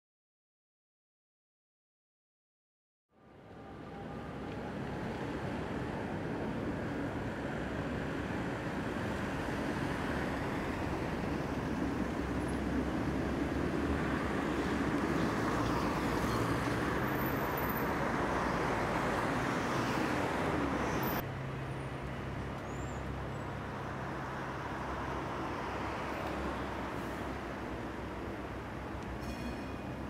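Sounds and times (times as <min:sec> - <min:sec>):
quiet street ambience: 0:03.1 - 0:30.0
cars passing: 0:03.3 - 0:30.0.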